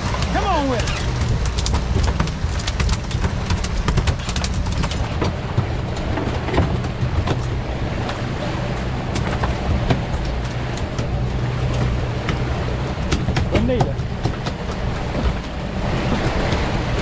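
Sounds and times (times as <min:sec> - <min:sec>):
sharp clicks and knocks: 0:00.0 - 0:16.7
outboard motor running: 0:00.0 - 0:17.0
water rushing from wake: 0:00.0 - 0:17.0.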